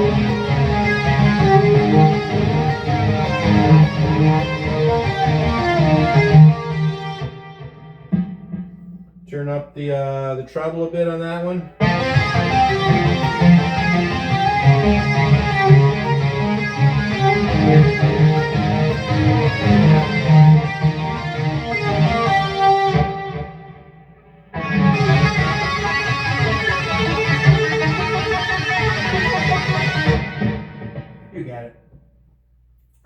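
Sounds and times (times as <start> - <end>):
distorted electric guitar riffing: 0.0 - 31.9.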